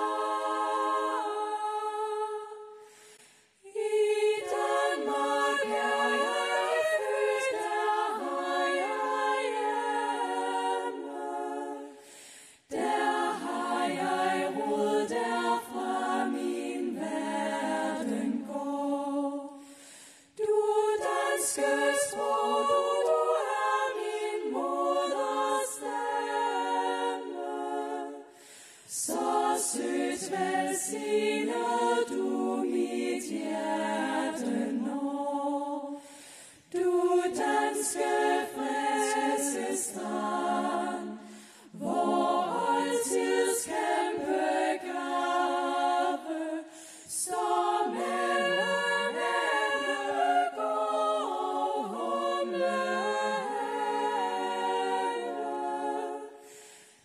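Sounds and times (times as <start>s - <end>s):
women singing in harmony: 0.0s - 56.8s.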